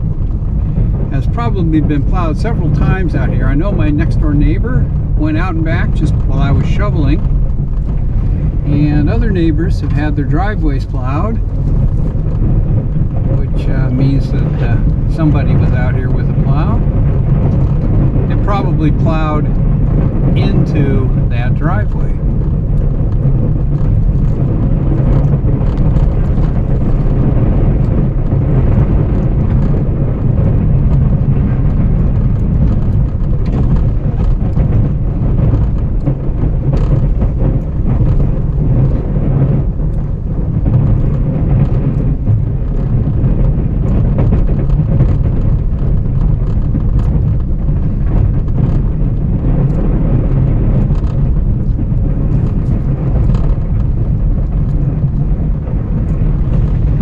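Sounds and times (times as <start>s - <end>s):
pickup truck engine running: 0.0s - 57.0s.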